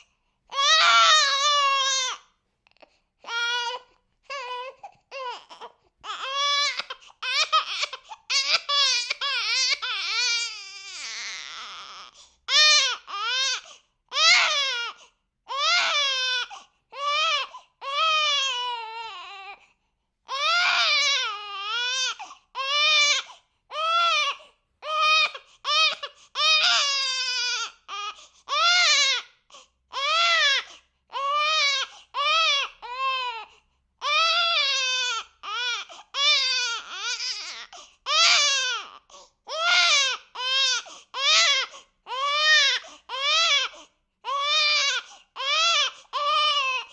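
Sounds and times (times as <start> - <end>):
baby crying: 0.0 - 2.3, 3.2 - 19.6, 20.3 - 46.9.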